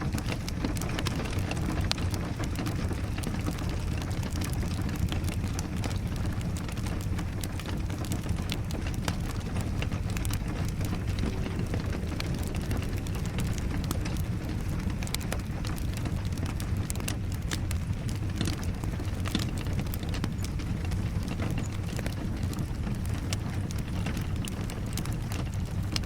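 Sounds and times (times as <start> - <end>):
rain falling: 0.0 - 26.0
wood fire crackling and popping: 0.0 - 26.0.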